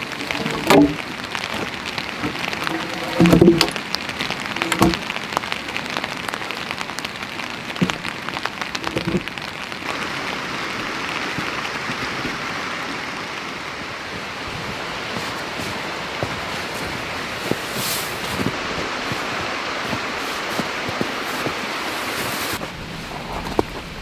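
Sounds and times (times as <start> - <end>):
heavy rain: 0.0 - 24.0
raindrops tapping on surface: 0.0 - 24.0.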